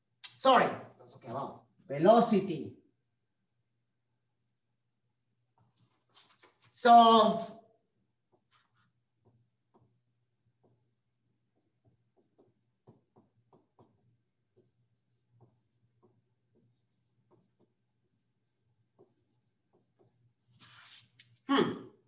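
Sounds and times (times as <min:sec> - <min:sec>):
marker writing on whiteboard: 0:00.0 - 0:22.0.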